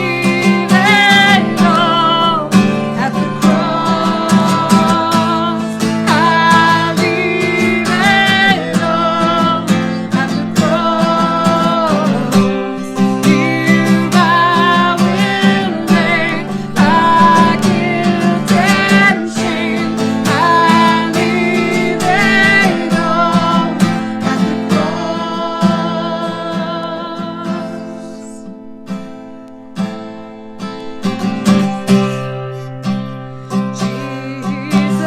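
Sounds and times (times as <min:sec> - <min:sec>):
person singing with vibrato: 0:00.0 - 0:29.1, 0:31.0 - 0:35.0
acoustic guitar strumming: 0:00.0 - 0:35.0.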